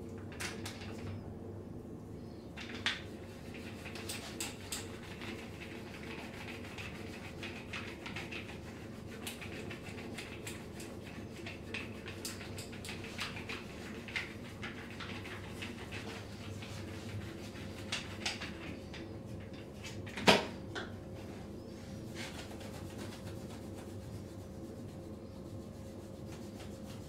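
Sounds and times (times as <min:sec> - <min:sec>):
steady low hum: 0:00.0 - 0:27.0
hands rubbing during massage: 0:02.7 - 0:20.1, 0:21.1 - 0:27.0.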